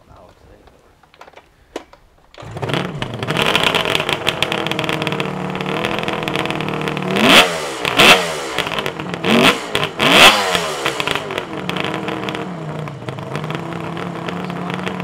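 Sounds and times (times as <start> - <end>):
motorcycle engine starting and idling: 1.1 - 15.0.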